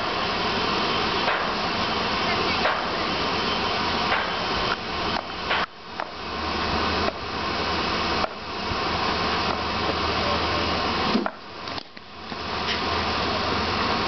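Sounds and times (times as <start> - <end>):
bowling machine whirring hiss: 0.0 - 14.0.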